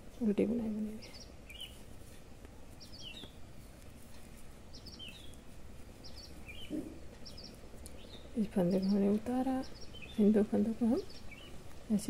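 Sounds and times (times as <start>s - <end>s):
faint room noise: 0.0s - 12.0s
bird chirping faintly: 0.2s - 12.0s.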